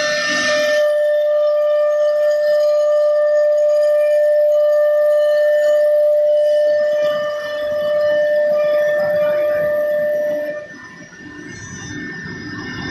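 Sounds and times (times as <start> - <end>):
rough machining noise: 0.0 - 12.9
router spindle whining: 0.0 - 12.9.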